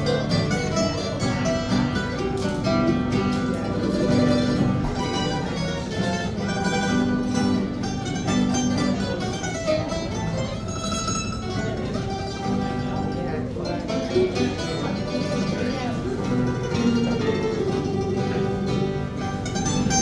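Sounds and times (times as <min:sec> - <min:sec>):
acoustic guitars: 0:00.0 - 0:20.0
mandolin: 0:00.0 - 0:20.0.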